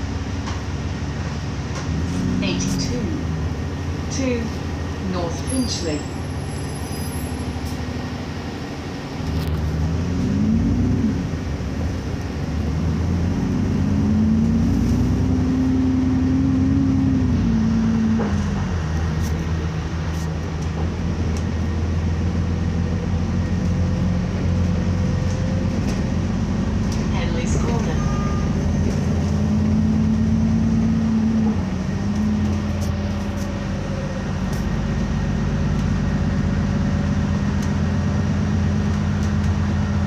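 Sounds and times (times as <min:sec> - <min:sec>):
bus diesel engine from inside: 0:00.0 - 0:40.0.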